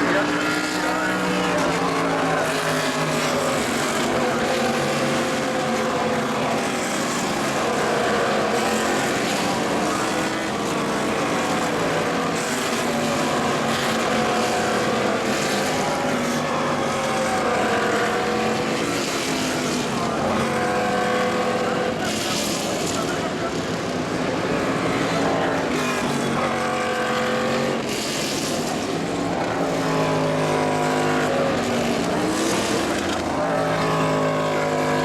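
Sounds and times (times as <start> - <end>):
race car engines: 0.0 - 35.0.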